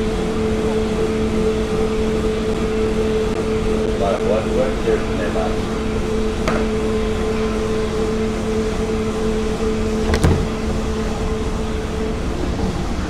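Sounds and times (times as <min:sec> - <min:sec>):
machine-shop hum: 0:00.0 - 0:13.0.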